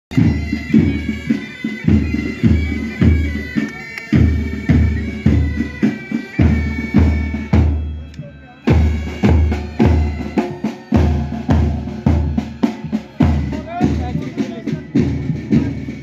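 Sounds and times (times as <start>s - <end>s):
bagpipes with drones: 0.1s - 16.0s
marching bass and side drums: 0.1s - 16.0s.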